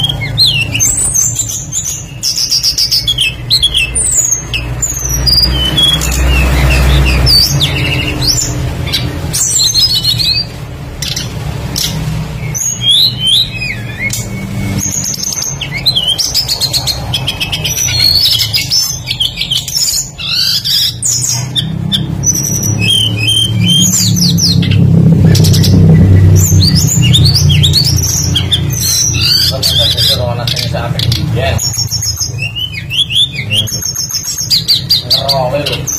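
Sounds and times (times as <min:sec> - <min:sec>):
songbird singing: 0:00.0 - 0:35.9.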